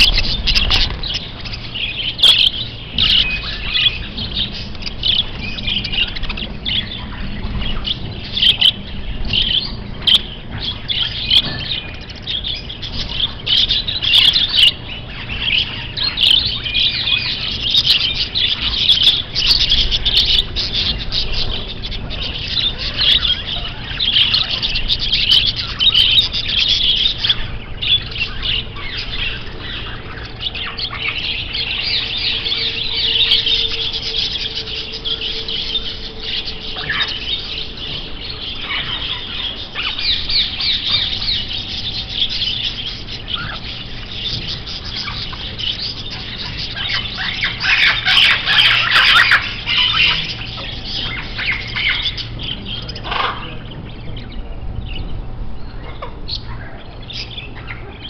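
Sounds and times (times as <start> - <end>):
budgerigars chattering: 0.0 - 58.0
faint steady hum: 0.0 - 58.0.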